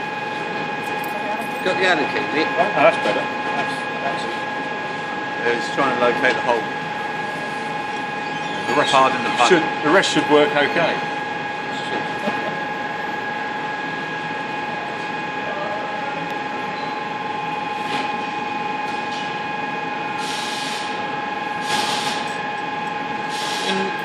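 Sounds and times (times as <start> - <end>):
machinery droning hum: 0.0 - 24.0.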